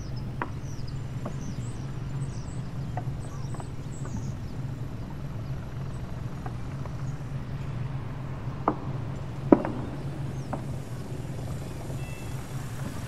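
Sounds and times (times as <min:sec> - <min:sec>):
ship engine humming: 0:00.0 - 0:13.0.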